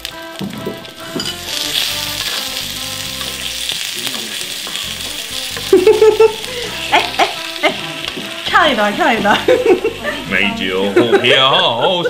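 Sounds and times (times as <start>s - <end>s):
meat sizzling on hot stone: 0.0s - 11.8s.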